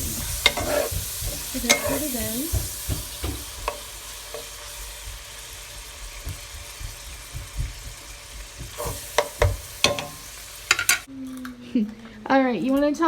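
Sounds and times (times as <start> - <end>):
meat sizzling in a frying pan: 0.0 - 11.1.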